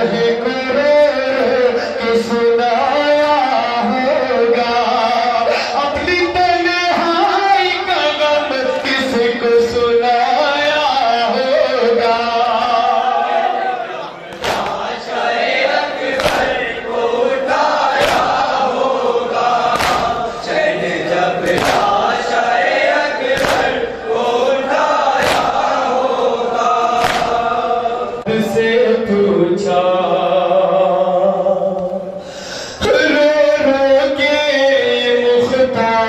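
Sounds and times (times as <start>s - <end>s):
men chanting in unison: 0.0s - 32.2s.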